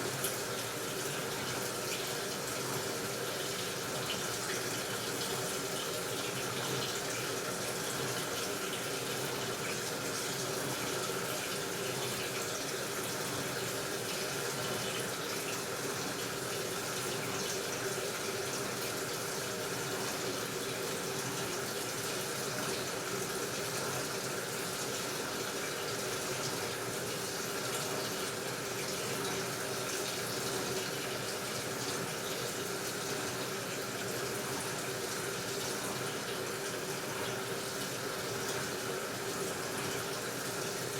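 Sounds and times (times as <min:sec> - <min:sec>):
water filling washing machine: 0:00.0 - 0:40.9.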